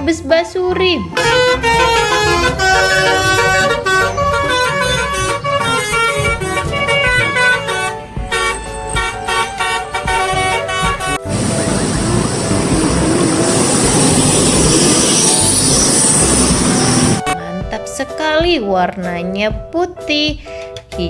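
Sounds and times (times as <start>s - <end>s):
bus horn playing a tune: 0.7s - 18.3s.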